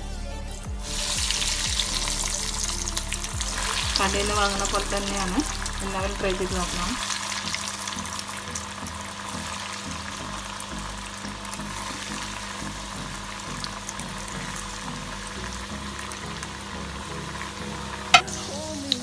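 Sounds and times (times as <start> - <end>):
deep-frying sizzle with pops: 0.8 - 19.0.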